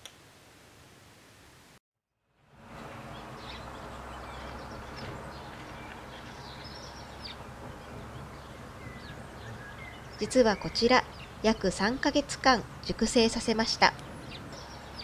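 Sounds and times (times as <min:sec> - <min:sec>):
garden ambience: 0:00.0 - 0:15.0
small birds chirping: 0:02.7 - 0:15.0.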